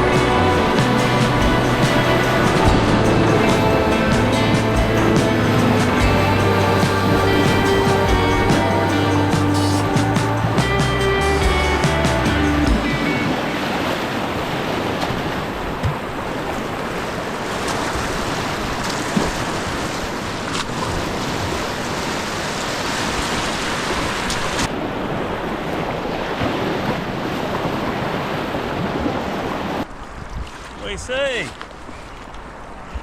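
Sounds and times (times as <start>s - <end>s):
whitewater rushing: 0.0s - 29.9s.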